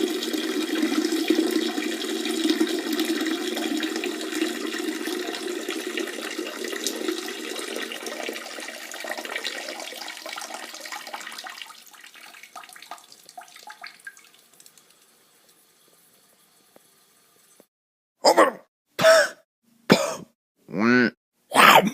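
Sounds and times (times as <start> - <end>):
water dripping: 0.0 - 17.7
water running and splashing: 0.0 - 17.7.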